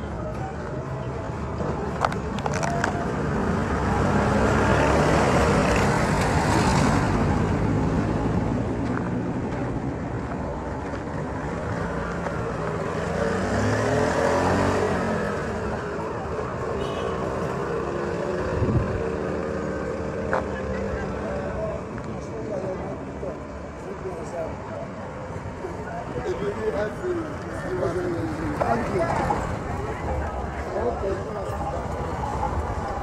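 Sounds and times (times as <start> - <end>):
engine and road noise: 0.0 - 33.0
vehicles passing: 0.0 - 33.0.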